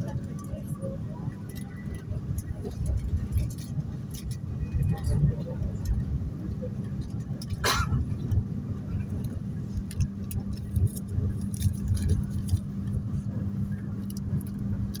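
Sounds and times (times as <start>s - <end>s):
constant hum: 0.0s - 15.0s
train wheels rumbling on rail: 0.0s - 15.0s.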